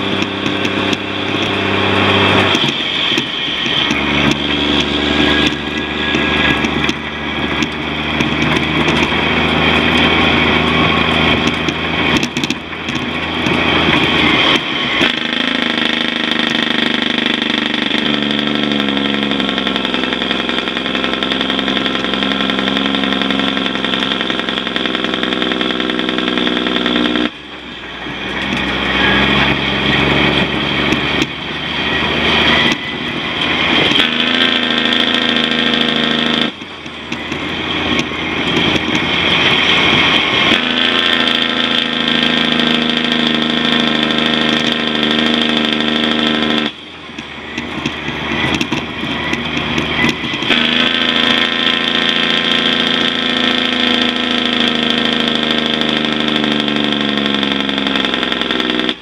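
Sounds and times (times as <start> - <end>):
diesel truck engine drone: 0.0 - 59.0.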